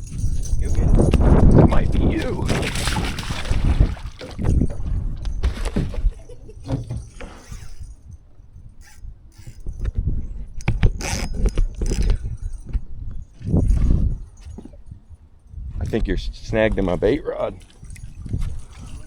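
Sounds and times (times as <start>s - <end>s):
fishing gear clicking and rattling: 0.0s - 15.7s, 17.6s - 19.0s
wind buffeting microphone: 0.0s - 19.0s.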